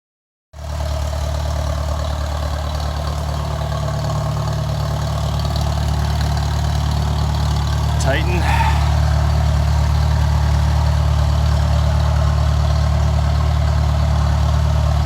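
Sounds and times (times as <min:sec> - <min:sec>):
tractor engine running: 0:00.9 - 0:15.0.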